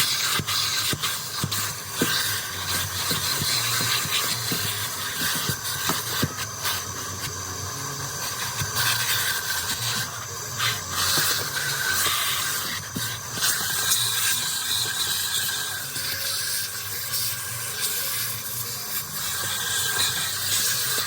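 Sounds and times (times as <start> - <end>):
car wash equipment hissing: 0.0 - 21.0.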